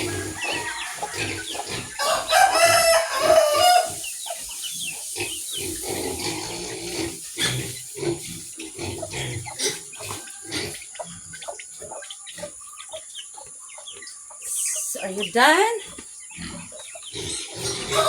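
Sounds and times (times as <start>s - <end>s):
pigs grunting: 0.0s - 4.1s, 5.0s - 13.1s, 15.8s - 18.0s.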